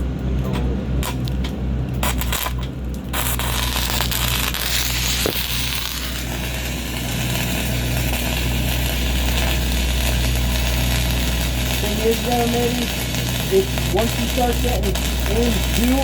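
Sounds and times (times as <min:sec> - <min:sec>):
steady low hum: 0:00.0 - 0:16.0
sharp welding pop: 0:01.0 - 0:16.0
welding arc crackling hiss: 0:01.0 - 0:16.0.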